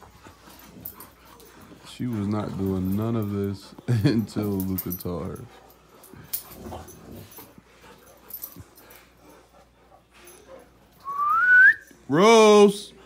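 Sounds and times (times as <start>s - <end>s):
dogs scuffling on carpet: 0.0s - 11.0s.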